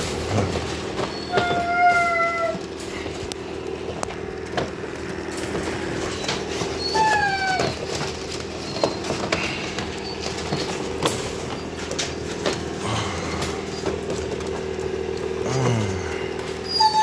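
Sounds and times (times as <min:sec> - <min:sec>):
puppy whining: 0:00.0 - 0:04.0, 0:05.4 - 0:17.0
steady low hum: 0:00.0 - 0:16.8
puppies moving in wire crate: 0:00.0 - 0:17.0.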